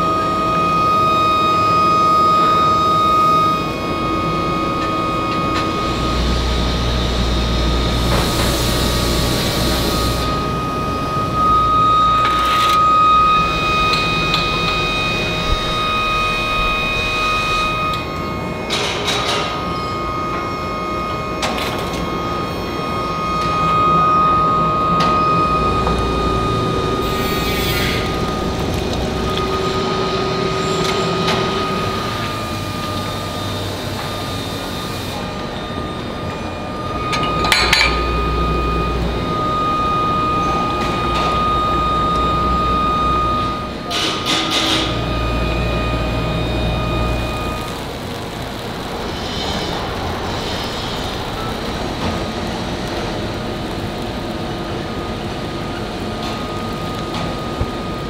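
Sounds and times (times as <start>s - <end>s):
machinery low rumble: 0.0s - 18.7s, 22.0s - 58.0s
machinery whine: 0.0s - 58.0s.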